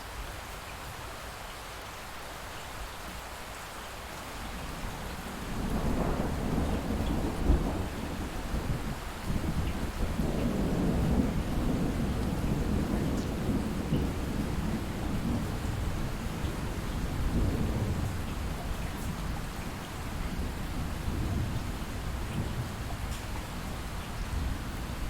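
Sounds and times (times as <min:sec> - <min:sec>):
light steady rain: 0:00.0 - 0:25.0
distant thunder rumbling: 0:04.6 - 0:25.0.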